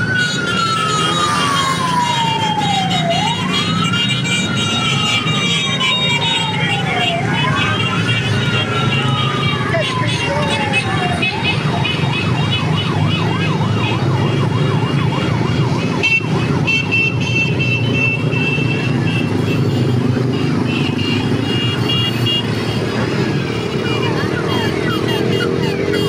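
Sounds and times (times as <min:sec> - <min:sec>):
warbling siren-like tone: 0:00.0 - 0:16.9, 0:18.0 - 0:26.0.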